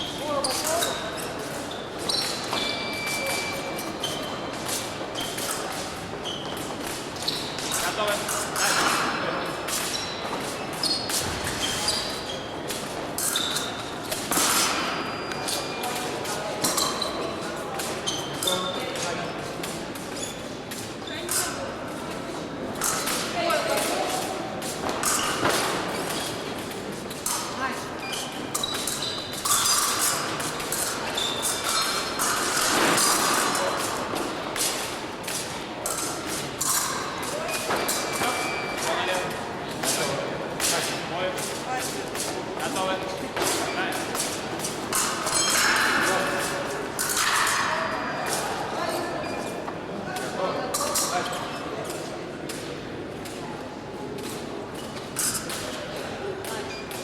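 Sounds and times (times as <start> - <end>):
voices in echoing hall: 0.0 - 57.0
fencing blades clinking: 0.1 - 20.1, 20.8 - 22.2, 22.8 - 49.6, 50.2 - 53.4, 54.2 - 57.0.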